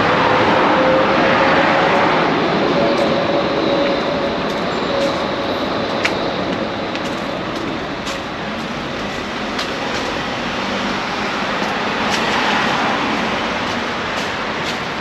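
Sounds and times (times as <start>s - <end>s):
city street traffic noise: 0.0s - 15.0s
vehicle passing: 0.0s - 15.0s.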